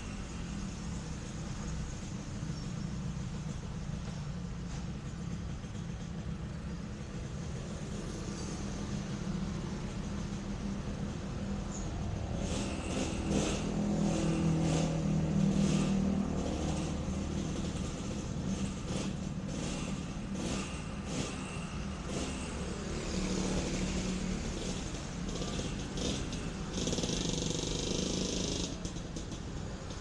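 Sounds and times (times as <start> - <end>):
two-stroke engine running: 0.2 - 30.0.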